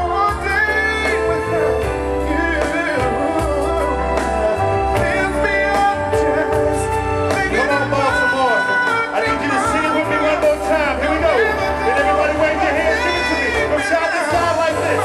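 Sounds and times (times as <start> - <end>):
instrumental backing music: 0.0 - 15.0
person singing: 0.0 - 15.0.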